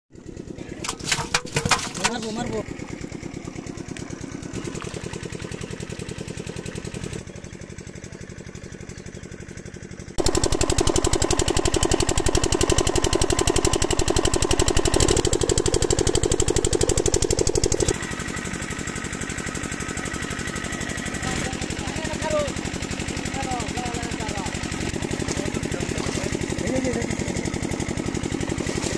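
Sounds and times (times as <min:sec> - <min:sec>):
water pump engine running: 0:00.1 - 0:28.9.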